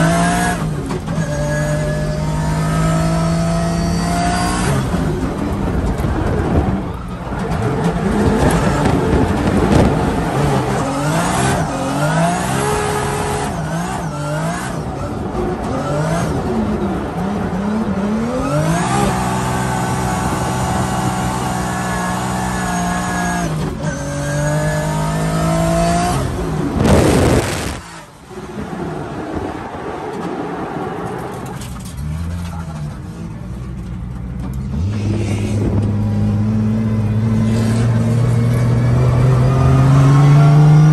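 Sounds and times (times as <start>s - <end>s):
car engine revving: 0.0s - 33.0s, 34.6s - 40.9s.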